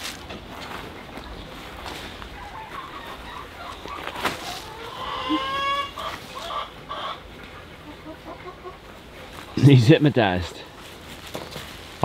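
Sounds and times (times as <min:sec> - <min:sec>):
chickens clucking: 0:00.3 - 0:11.0.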